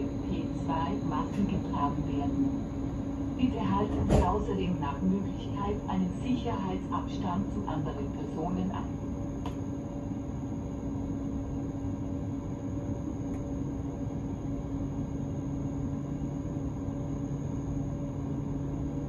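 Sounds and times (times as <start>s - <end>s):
train interior hum and rumble: 0.0s - 19.0s.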